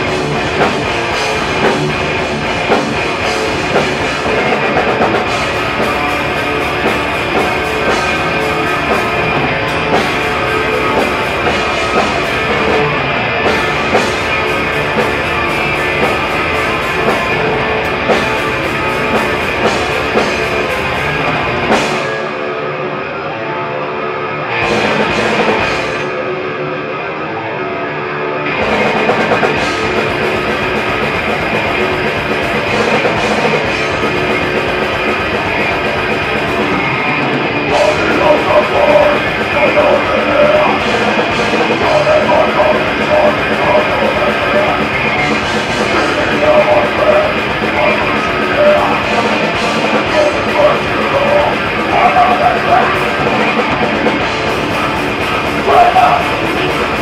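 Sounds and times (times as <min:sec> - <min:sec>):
bass guitar: 0:00.0 - 0:57.0
distorted electric guitars: 0:00.0 - 0:57.0
drums: 0:00.0 - 0:57.0.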